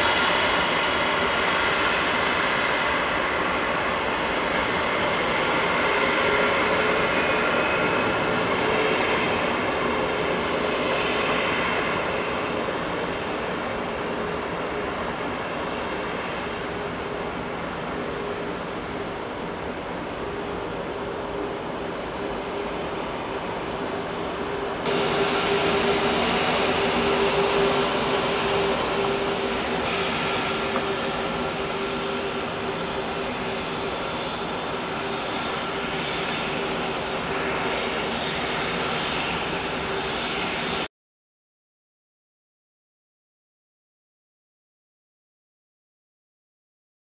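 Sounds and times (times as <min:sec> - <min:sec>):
jet engines hissing with whine: 0:00.0 - 0:40.9.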